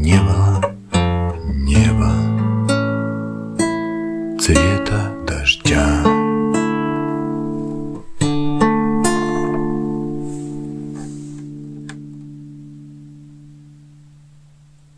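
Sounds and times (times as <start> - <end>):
classical guitar chords: 0.0 - 14.9.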